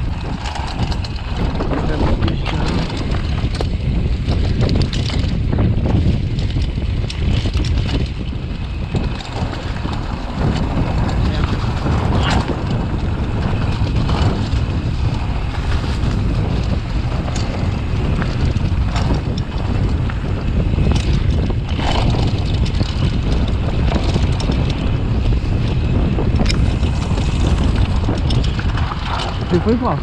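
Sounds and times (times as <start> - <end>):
bike clicks: 0.0 - 30.0
tyres rumbling on dirt trail: 0.0 - 30.0
wind buffeting microphone: 0.0 - 30.0.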